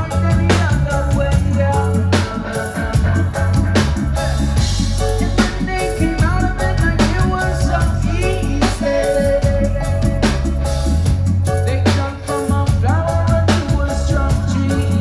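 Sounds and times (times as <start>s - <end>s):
live reggae rock band playing: 0.0s - 15.0s.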